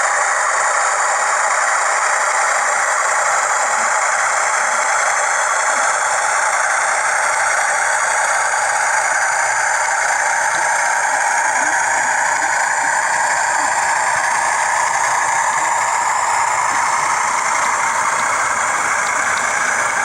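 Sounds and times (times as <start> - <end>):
thin model engine drone: 0.0 - 20.0.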